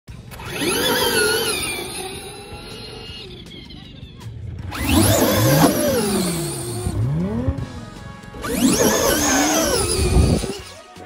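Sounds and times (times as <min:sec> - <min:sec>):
electric motor whine: 0:00.2 - 0:03.9, 0:04.7 - 0:10.9.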